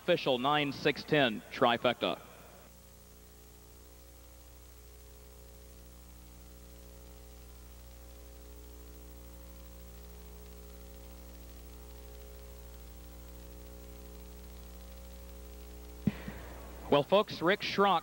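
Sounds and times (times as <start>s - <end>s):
electrical mains hum: 0.0s - 18.0s
faint hiss: 0.0s - 18.0s.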